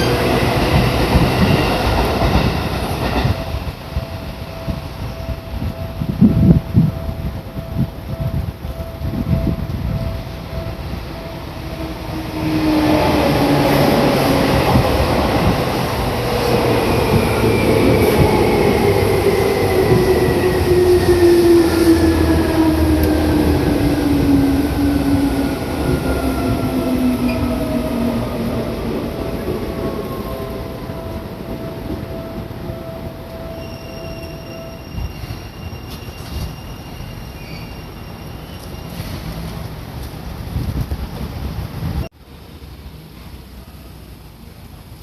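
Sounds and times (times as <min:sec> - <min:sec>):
crossing warning bell: 0:00.0 - 0:39.0
electric train passing: 0:00.0 - 0:45.0.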